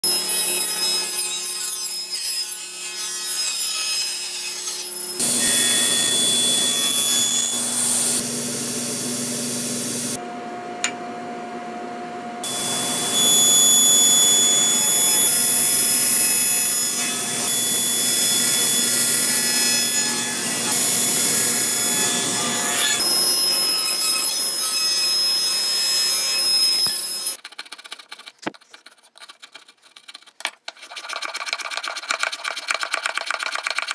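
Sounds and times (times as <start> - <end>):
uneven work sounds: 0.0 - 10.2, 12.4 - 33.9.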